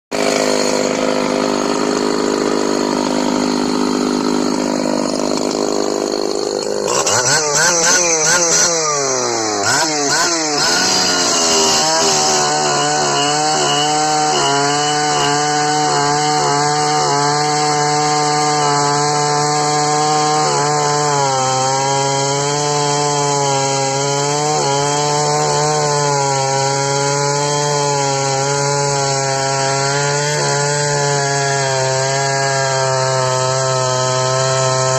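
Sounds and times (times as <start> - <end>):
chainsaw running loudly: 0.1 - 34.9.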